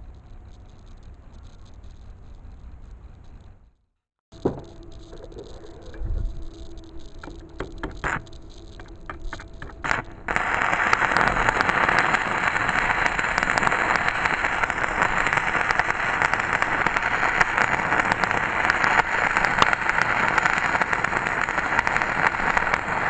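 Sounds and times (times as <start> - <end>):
welding arc crackling sizzle: 0.0 - 3.6, 4.3 - 23.0
welding electrode sputters: 4.3 - 23.0.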